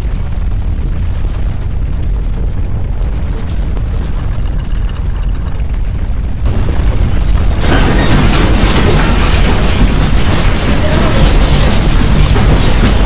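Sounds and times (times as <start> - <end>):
earthquake rumble: 0.0 - 13.0.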